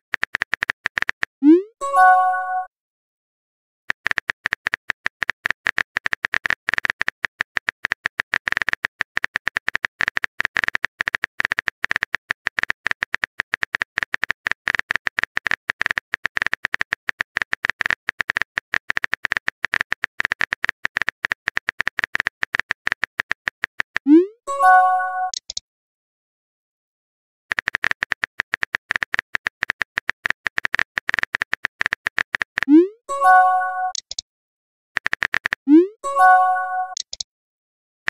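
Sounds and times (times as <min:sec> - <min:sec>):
keyboard typing clicks: 0:03.9 - 0:25.6, 0:27.5 - 0:34.2, 0:35.0 - 0:37.3.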